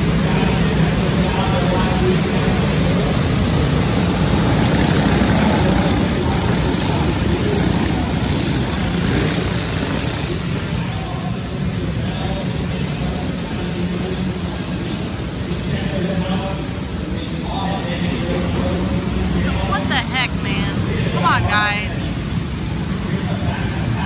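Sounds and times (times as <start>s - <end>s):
go-kart engines droning: 0.0s - 24.0s.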